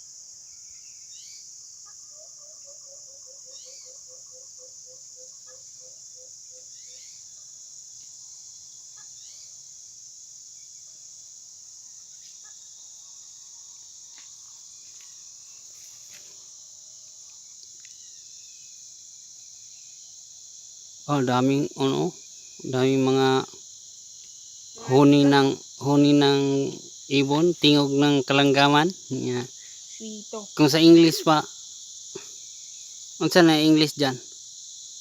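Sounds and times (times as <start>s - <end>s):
crickets and insects chorus: 0.0s - 35.0s.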